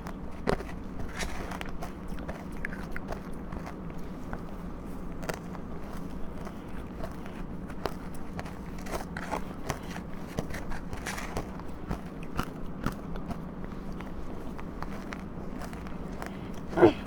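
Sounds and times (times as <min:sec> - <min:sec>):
crunching and chewing ice: 0:00.0 - 0:17.0
steady low hum: 0:00.0 - 0:17.0.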